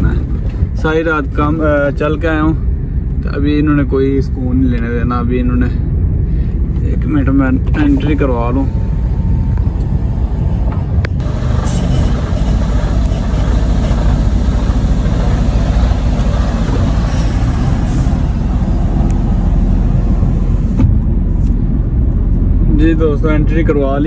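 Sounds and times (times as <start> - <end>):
truck engine rumbling: 0.0 - 24.0.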